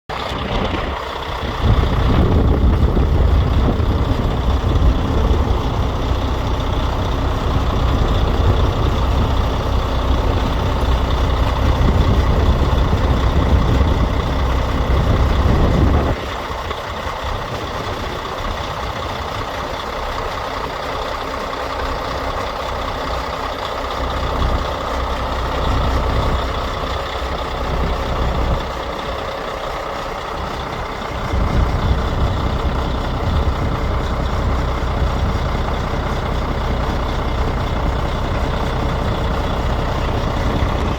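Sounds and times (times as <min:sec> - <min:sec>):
diesel truck engine rumbling: 0:00.1 - 0:40.9.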